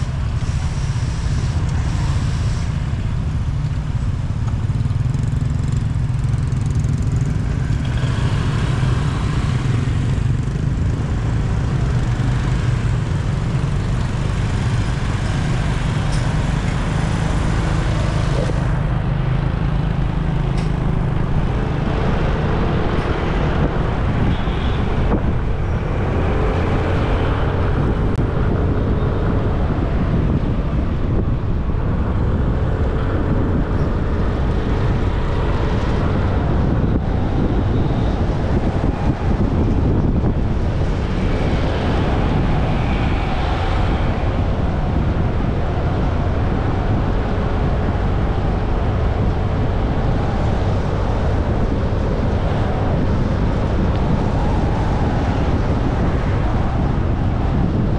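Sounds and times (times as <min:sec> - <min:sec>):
road and wind noise: 0:00.0 - 0:57.9.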